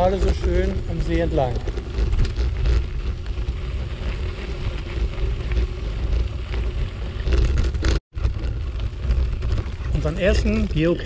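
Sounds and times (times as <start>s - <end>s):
bicycle tyres on gravel: 0.0s - 11.0s.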